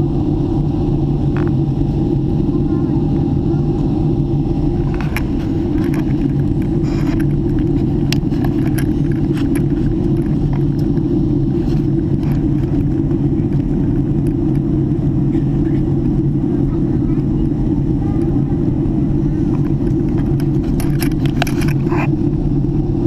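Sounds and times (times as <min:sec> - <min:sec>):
jet engine and airflow rumble: 0:00.0 - 0:23.0.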